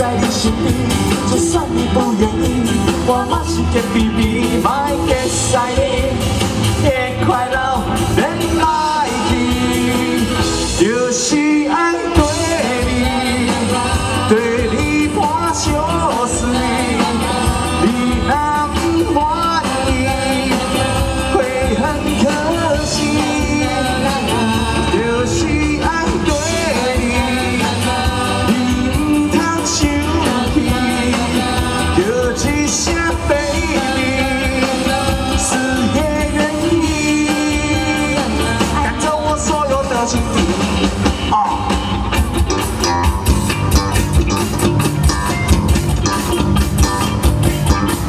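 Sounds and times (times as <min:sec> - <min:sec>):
live pop-rock band playing: 0:00.0 - 0:48.0.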